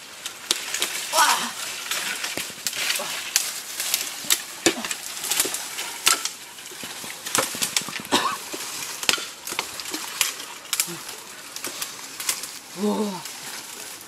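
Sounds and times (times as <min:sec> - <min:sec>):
leafy branches rustling: 0:00.0 - 0:14.0
twigs crackling and snapping: 0:00.0 - 0:14.0.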